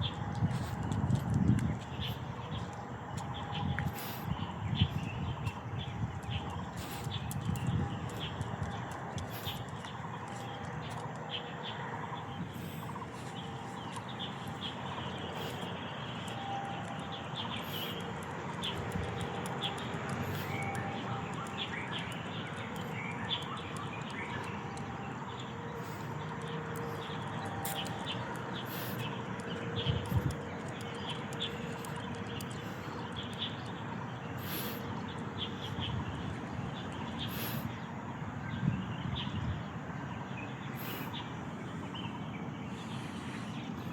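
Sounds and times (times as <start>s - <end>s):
birds chirping: 0.0s - 43.9s
steady background hum: 0.0s - 43.9s.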